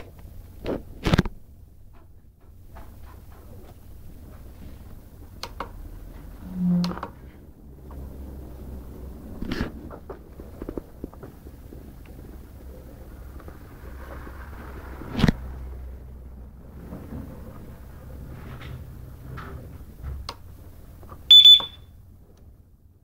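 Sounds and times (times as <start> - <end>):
faint steady background hum: 0.0 - 23.0.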